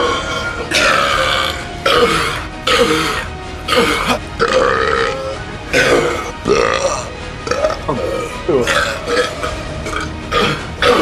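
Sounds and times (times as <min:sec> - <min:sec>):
man burping loudly: 0:00.0 - 0:11.0.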